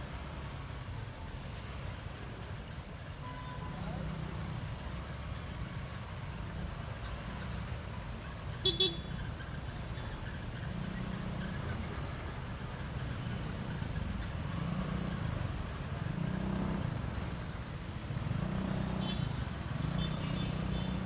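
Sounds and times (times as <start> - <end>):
scooter engine and road rumble: 0.0 - 21.0.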